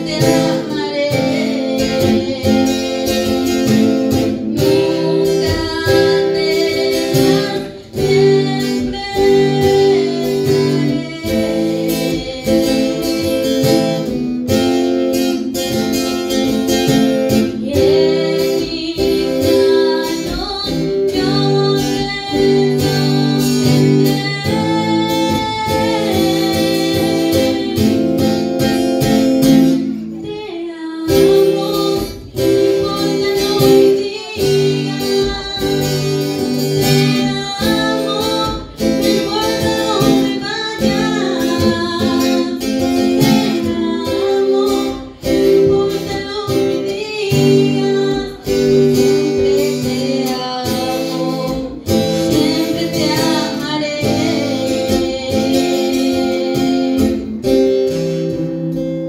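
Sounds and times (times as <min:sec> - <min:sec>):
guitar chords: 0:00.0 - 0:59.0
person singing: 0:00.0 - 0:59.0.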